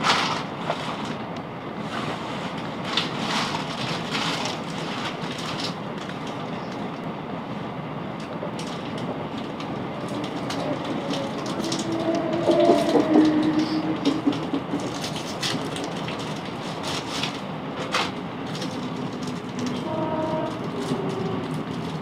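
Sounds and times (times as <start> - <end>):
electric train rumbling: 0.0 - 22.0
rail clicks: 0.0 - 22.0.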